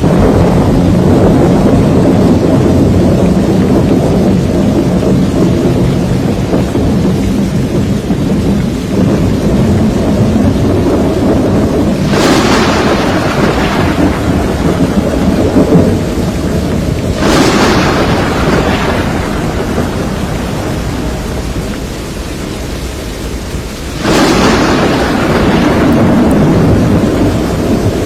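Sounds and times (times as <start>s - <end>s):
deep rumble of thunder: 0.0s - 28.0s
hiss of heavier rain or wind: 0.0s - 28.0s
rain: 0.0s - 28.0s.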